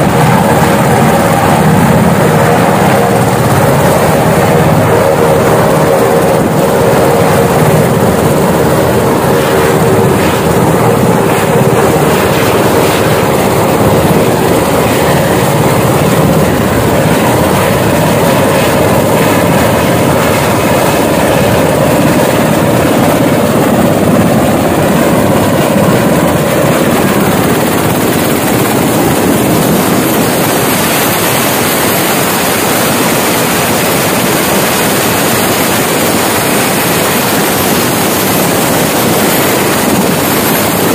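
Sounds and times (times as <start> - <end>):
helicopter engine whine and rotors: 0.0 - 40.9.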